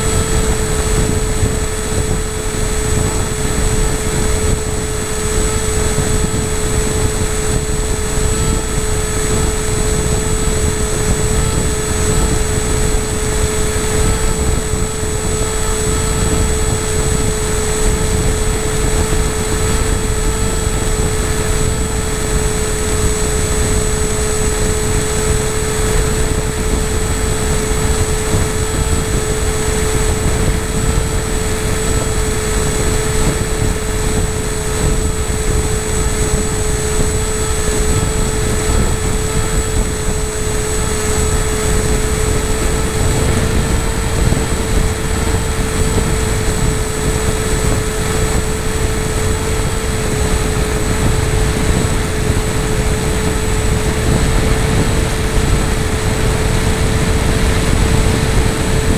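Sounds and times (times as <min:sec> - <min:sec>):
model aircraft motor whine: 0:00.0 - 0:58.9
wind rumble: 0:00.0 - 0:58.9.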